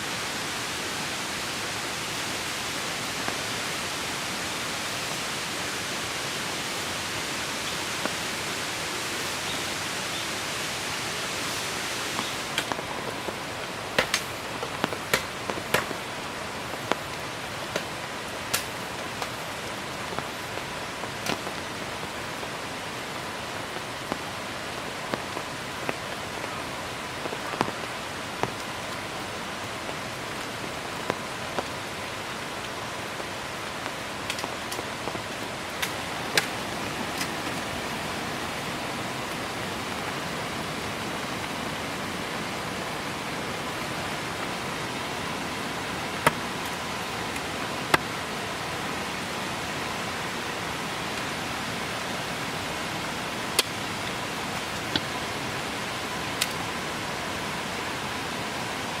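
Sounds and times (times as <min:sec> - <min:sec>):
heavy rain falling: 0:00.0 - 0:59.0
taps of raindrops: 0:01.5 - 0:44.6, 0:45.6 - 0:49.4, 0:53.3 - 0:56.7.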